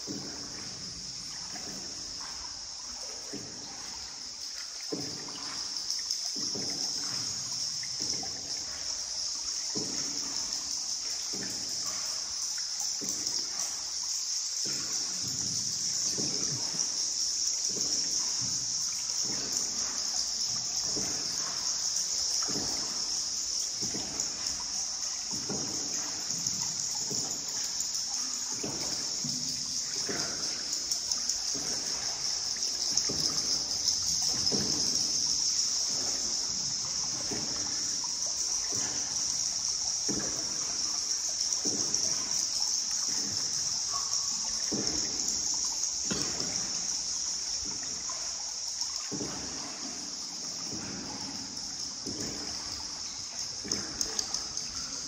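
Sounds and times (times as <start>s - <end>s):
paddle dipping into water: 0.0s - 55.0s
water splashing and trickling: 0.0s - 55.0s.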